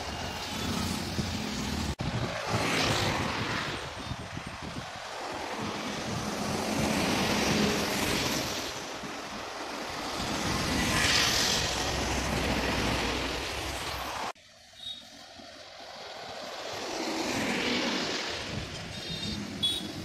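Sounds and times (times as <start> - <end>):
highway traffic passing: 0.0 - 20.0.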